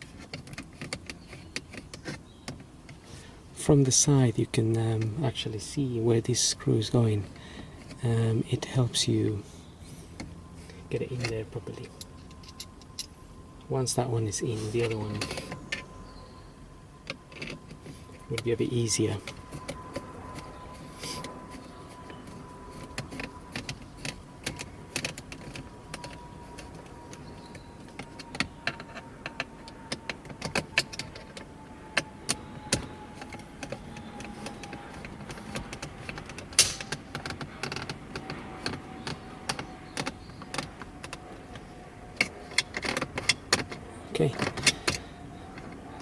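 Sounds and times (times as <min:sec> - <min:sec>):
faint steady whine: 0:00.0 - 0:46.0.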